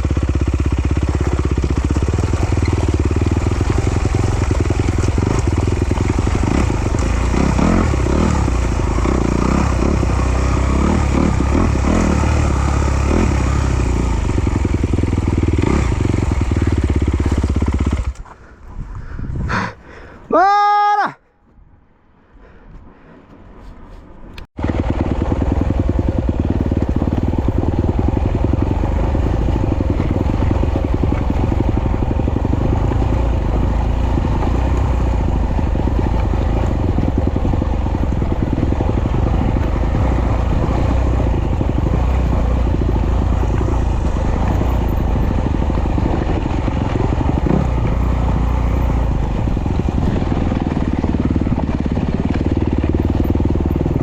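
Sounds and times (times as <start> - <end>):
motorcycle engine running: 0.0 - 18.6, 24.4 - 54.0.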